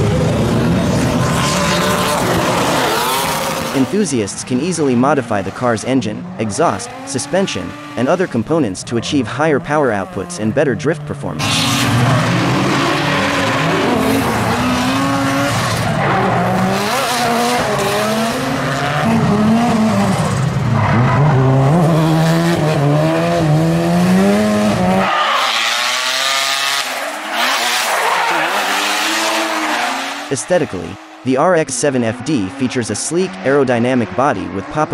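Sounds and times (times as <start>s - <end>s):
rotary engines revving: 0.0s - 34.9s.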